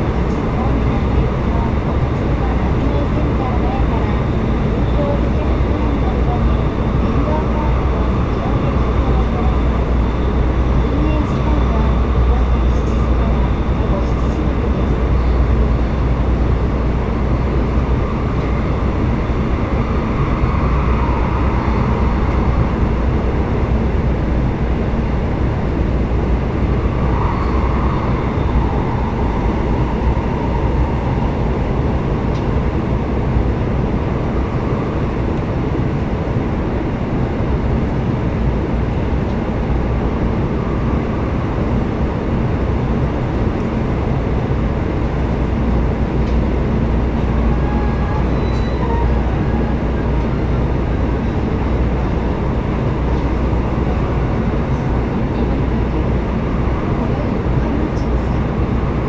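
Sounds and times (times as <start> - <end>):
train rumbling through a tunnel: 0.0 - 59.0.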